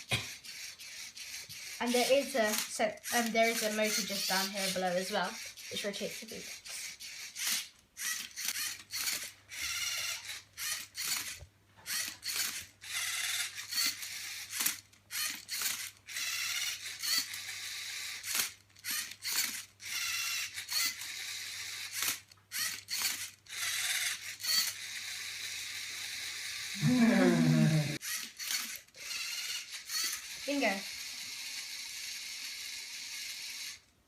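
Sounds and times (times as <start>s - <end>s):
servo motors whirring: 0.3s - 33.8s.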